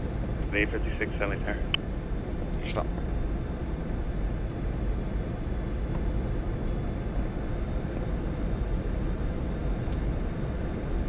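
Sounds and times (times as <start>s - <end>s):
airflow and engine rushing noise: 0.0s - 11.0s.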